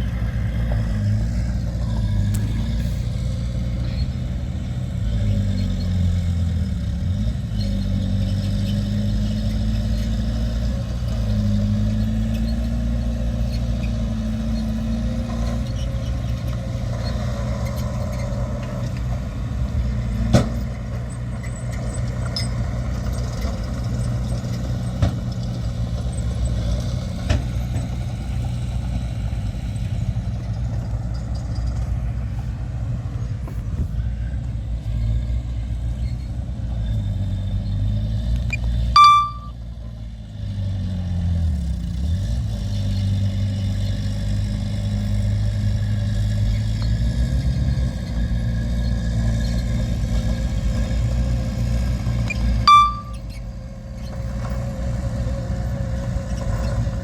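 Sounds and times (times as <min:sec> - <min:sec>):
diesel earthmoving machinery running: 0:00.0 - 0:57.0.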